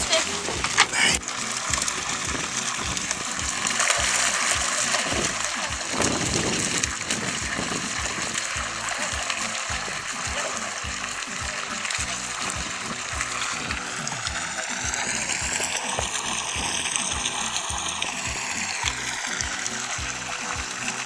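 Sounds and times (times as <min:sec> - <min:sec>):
music with steady beat: 0:00.0 - 0:21.0
water splashing: 0:00.0 - 0:21.0.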